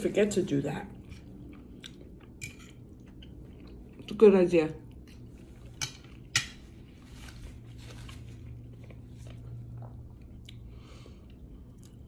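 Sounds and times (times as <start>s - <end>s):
person chewing food: 0.9s - 4.1s, 4.9s - 12.0s.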